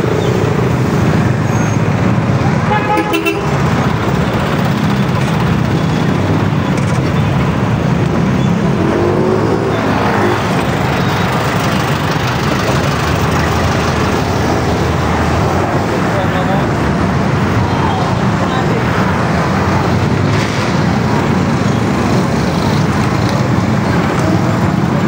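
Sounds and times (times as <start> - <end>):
road traffic engines: 0.0 - 25.0.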